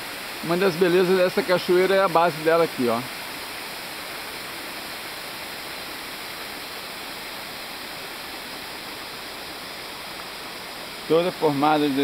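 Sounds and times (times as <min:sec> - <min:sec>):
small waterfall rushing: 0:00.0 - 0:12.0.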